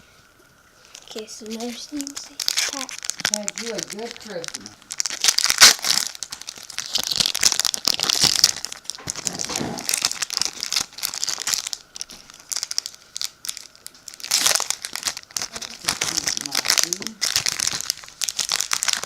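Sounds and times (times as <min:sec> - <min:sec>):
foil wrapper crinkling and tearing: 0:00.9 - 0:19.0.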